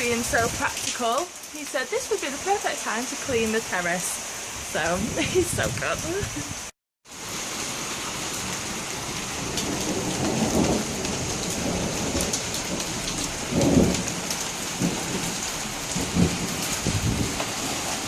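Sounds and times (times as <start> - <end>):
torrential rain pouring: 0.0 - 18.0.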